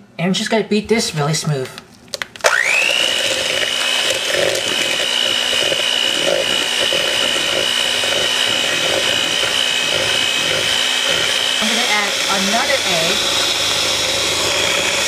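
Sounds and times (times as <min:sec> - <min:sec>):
electric hand mixer whining: 0:02.4 - 0:15.0.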